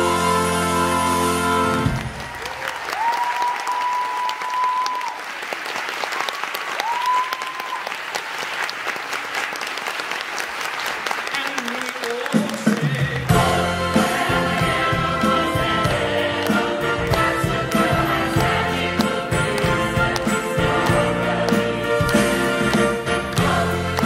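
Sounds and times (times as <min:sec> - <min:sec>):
audience applauding and cheering: 0:00.0 - 0:24.0.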